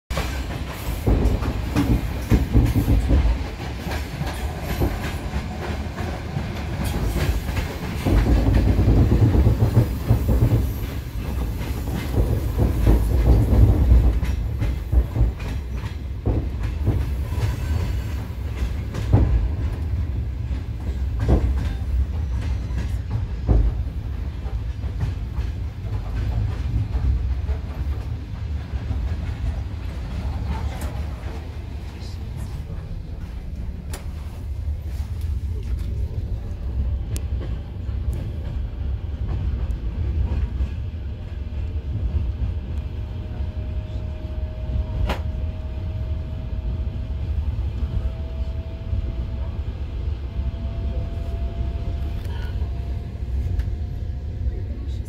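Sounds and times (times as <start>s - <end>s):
train wheels rumbling and clattering: 0.1s - 55.0s.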